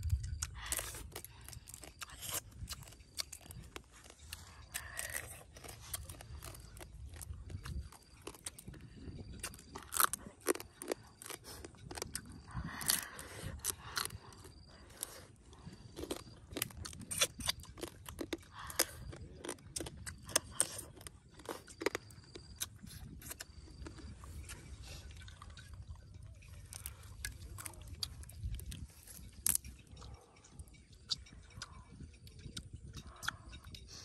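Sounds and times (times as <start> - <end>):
crab shell crunching: 0.0 - 31.8
chewing crab: 0.0 - 34.0.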